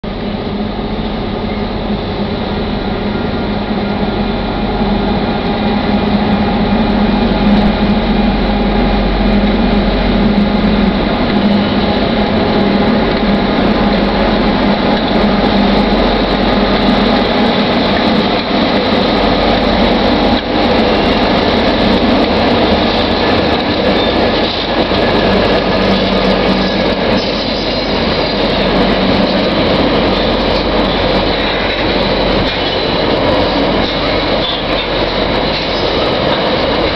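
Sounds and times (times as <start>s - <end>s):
locomotive engine drone: 0.0s - 36.9s.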